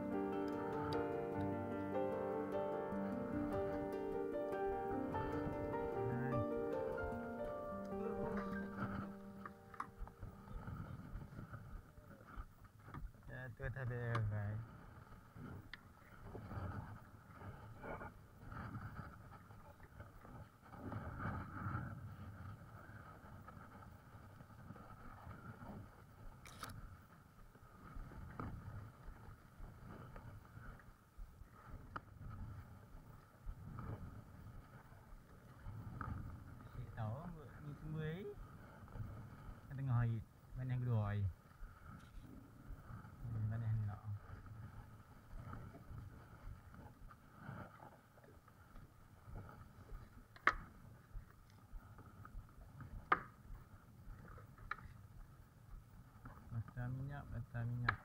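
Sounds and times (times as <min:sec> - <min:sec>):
wind rumble on microphone: 0:08.3 - 0:58.0.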